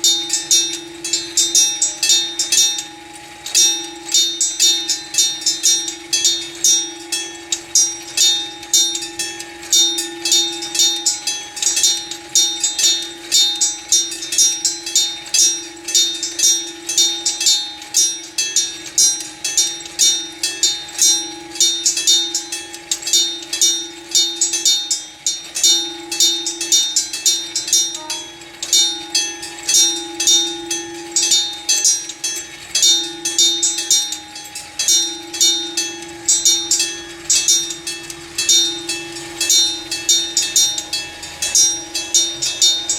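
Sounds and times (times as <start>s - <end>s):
level crossing bell ringing: 0.0s - 42.9s.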